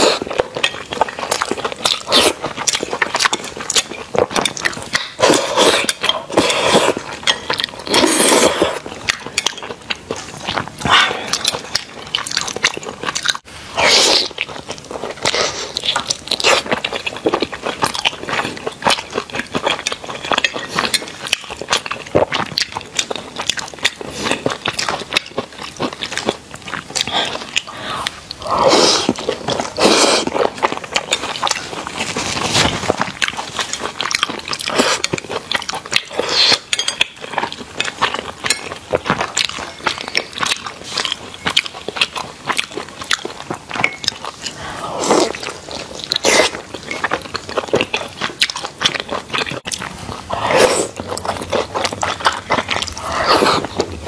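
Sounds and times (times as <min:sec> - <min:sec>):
wet biting and chewing: 0:00.0 - 0:54.0.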